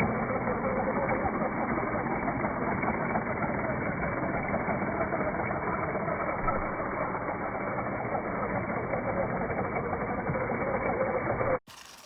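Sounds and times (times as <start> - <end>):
toy car electric motor whirring: 0.0 - 12.0.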